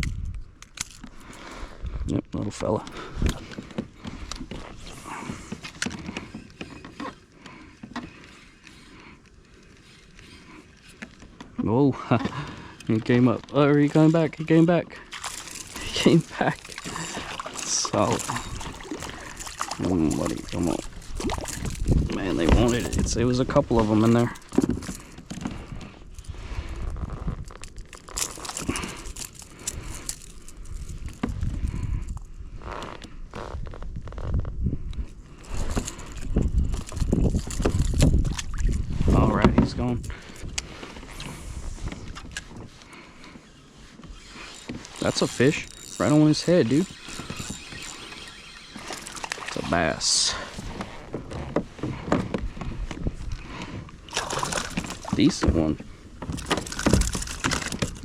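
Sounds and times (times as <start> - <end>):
fishing gear clicks and knocks: 0.0 - 58.0.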